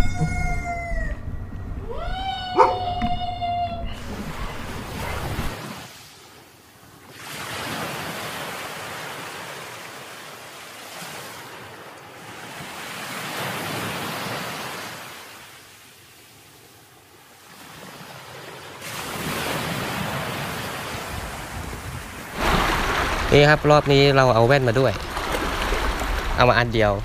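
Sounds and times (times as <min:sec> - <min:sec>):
sea waves washing onto beach: 0:04.0 - 0:27.0.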